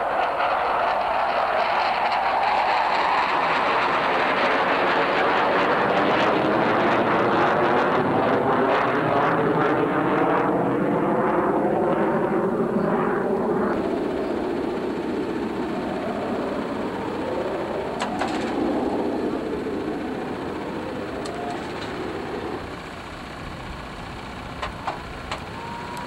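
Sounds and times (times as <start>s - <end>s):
engine drone: 0.0s - 26.0s.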